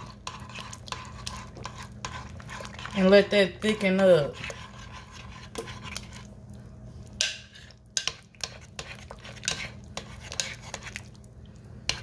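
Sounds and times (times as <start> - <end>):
metal spoon scraping pot: 0.0 - 6.3, 7.4 - 11.0.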